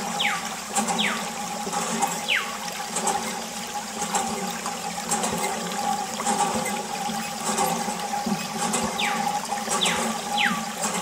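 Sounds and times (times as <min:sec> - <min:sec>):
water splashing on plastic: 0:00.0 - 0:11.0.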